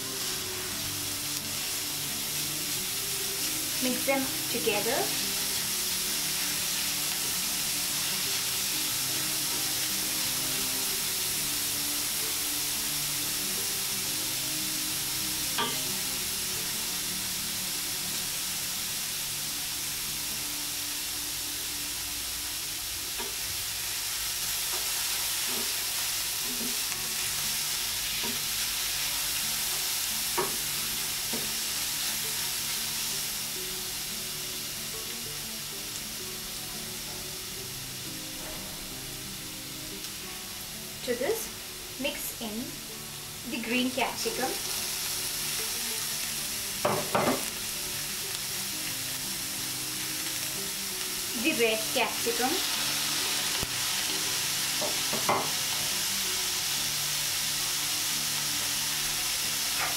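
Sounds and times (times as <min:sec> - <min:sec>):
vegetables sizzling in hot oil: 0:00.0 - 0:59.9.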